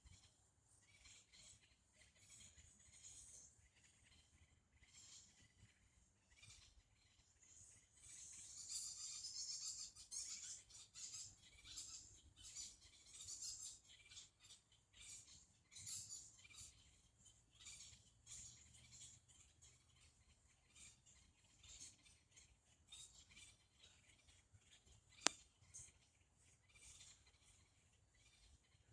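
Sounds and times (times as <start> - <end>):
animals chirring and chirping: 0.0 - 28.9.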